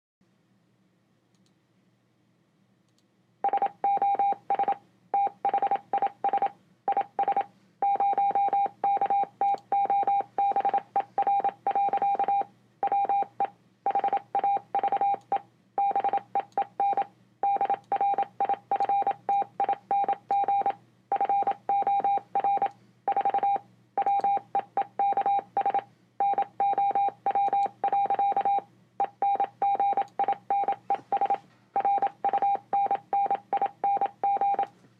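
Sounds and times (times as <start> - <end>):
morse code beeping: 3.5 - 13.3, 15.8 - 34.7.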